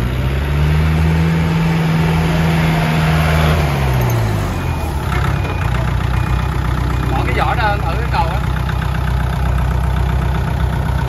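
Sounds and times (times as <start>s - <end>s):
tractor diesel engine: 0.0s - 11.0s.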